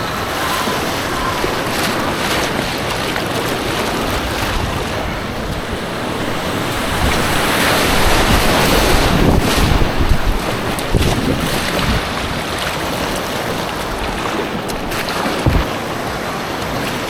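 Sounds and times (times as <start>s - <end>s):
rushing white water: 0.0s - 17.0s
wind buffeting microphone: 0.0s - 17.0s.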